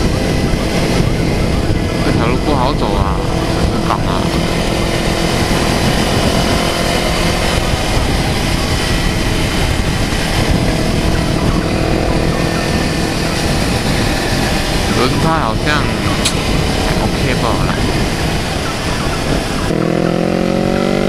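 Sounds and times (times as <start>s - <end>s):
motorcycle engine running: 0.0s - 21.0s
steady rushing noise: 0.0s - 21.0s.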